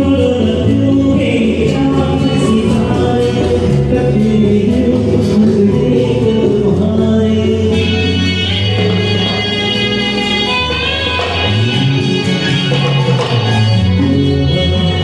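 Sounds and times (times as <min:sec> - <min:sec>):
drum kit: 0:00.0 - 0:15.0
sustained keyboard chords: 0:00.0 - 0:15.0.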